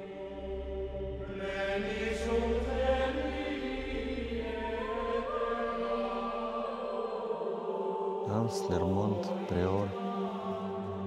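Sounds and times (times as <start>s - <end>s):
slow sung chant: 0.0s - 11.0s.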